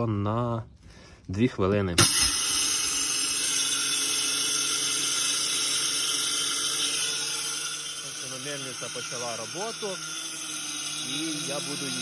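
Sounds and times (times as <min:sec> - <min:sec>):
grain mill whirring: 0:02.0 - 0:12.0.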